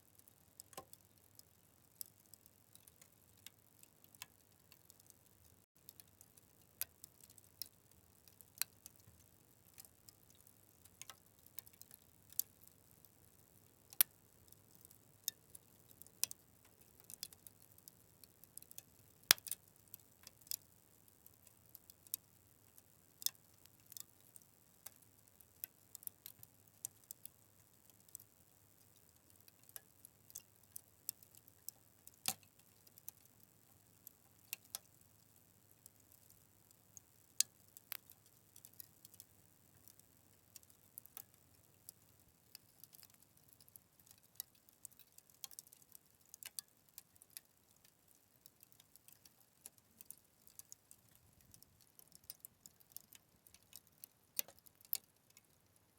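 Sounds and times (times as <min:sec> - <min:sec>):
fire crackling and popping: 0:00.1 - 0:55.8.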